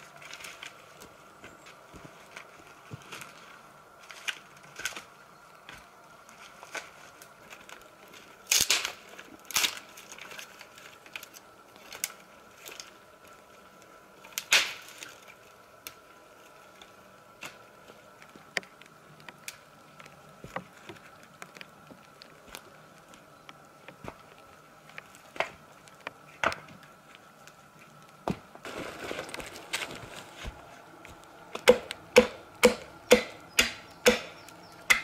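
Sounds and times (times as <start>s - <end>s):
dry branches crackling and snapping: 0.0s - 35.0s.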